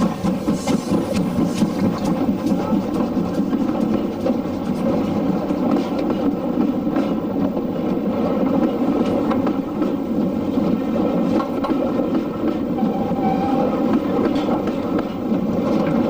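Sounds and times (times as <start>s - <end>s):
train rumbling along the line: 0.0s - 16.0s.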